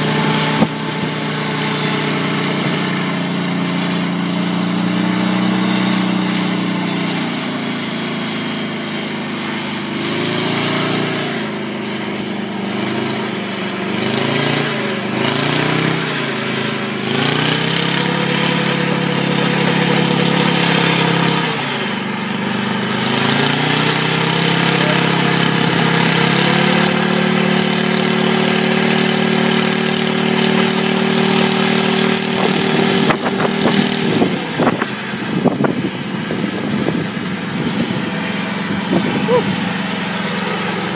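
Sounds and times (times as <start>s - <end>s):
helicopter engine revving: 0.0s - 40.9s.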